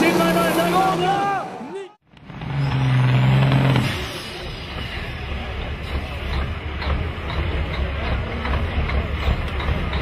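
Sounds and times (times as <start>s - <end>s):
diesel truck engines rumbling: 0.0s - 10.0s.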